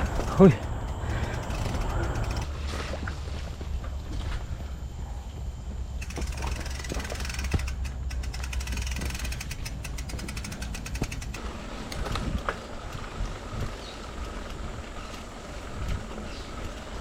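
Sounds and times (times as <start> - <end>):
bicycle freehub ticking: 0.0 - 2.6, 5.9 - 17.0
bike rattling over bumps: 0.0 - 17.0
tyres and wind rumbling: 0.0 - 17.0.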